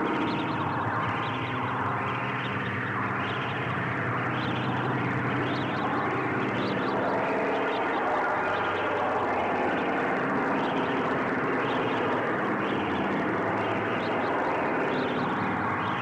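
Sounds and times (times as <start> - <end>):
dense layered drone: 0.0 - 16.0.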